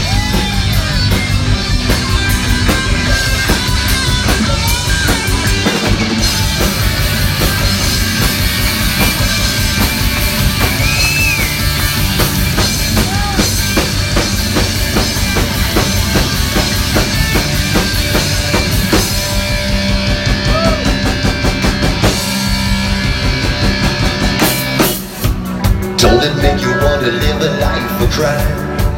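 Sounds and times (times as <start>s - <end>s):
bass guitar: 0.0s - 28.9s
drum kit: 0.0s - 28.9s
electric guitar with bent notes: 0.0s - 28.9s.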